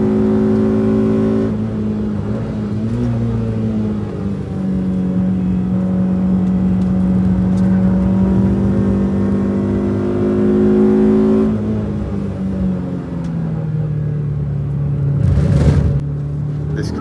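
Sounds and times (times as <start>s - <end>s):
car engine revving high: 0.0s - 13.1s, 15.2s - 16.1s.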